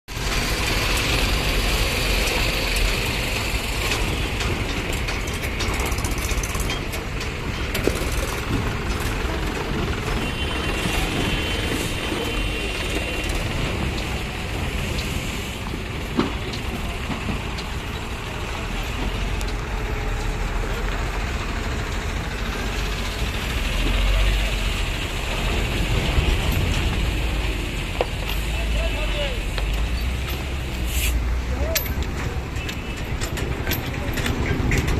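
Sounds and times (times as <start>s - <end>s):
truck diesel engines rumbling: 0.1s - 34.9s.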